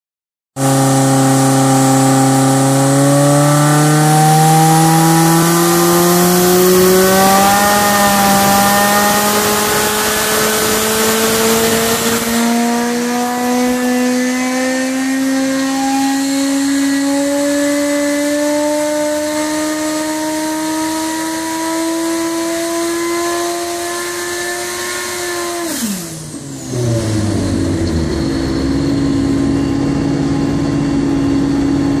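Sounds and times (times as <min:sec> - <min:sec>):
motorcycle engine revving on dyno: 0:00.6 - 0:32.0.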